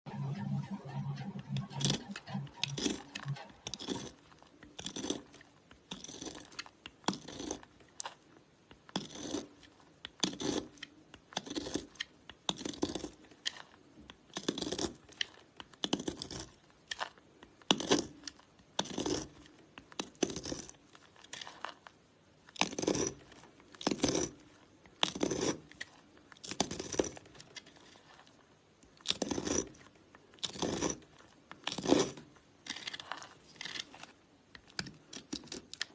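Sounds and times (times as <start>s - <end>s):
blade cutting soap: 3.7s - 35.9s.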